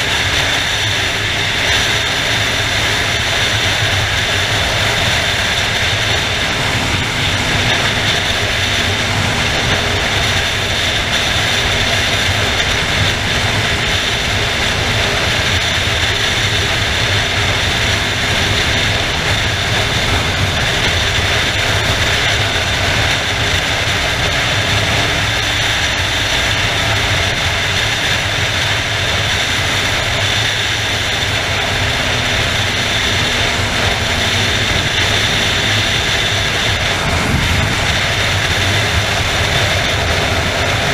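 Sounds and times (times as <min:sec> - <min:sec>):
motorcycle engine drone: 0:00.0 - 0:40.9
wind rushing over microphone: 0:00.0 - 0:40.9.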